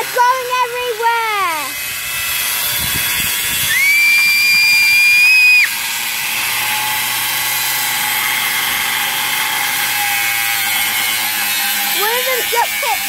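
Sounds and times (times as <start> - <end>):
angle grinder cutting steel: 0.0 - 13.0
high-pitched grinder squeal: 1.5 - 13.0.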